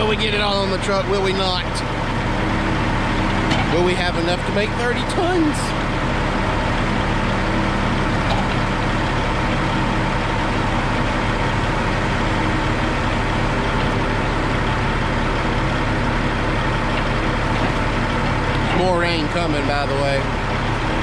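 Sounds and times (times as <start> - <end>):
heavy vehicle engine idling: 0.0 - 21.0.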